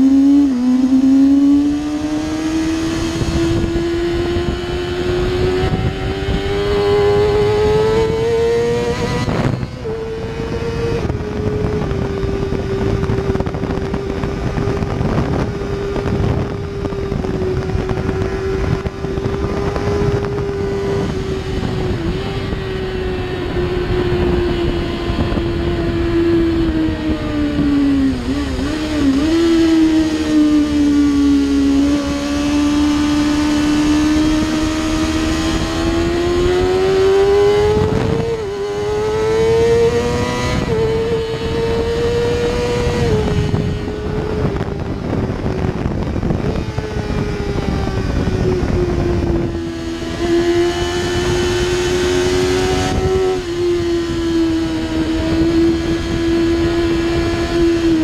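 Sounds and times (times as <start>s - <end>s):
motorcycle engine at high revs: 0.0s - 58.0s
wind buffeting microphone: 0.0s - 58.0s.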